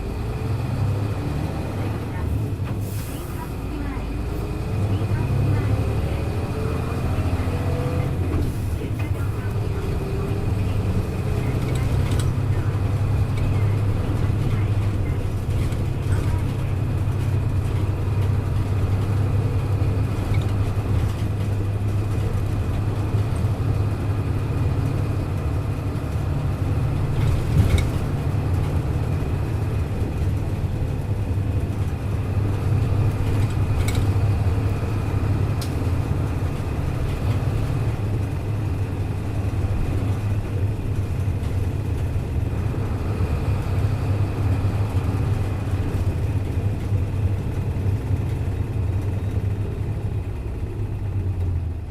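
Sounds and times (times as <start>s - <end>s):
bus diesel engine drone: 0.0s - 51.9s.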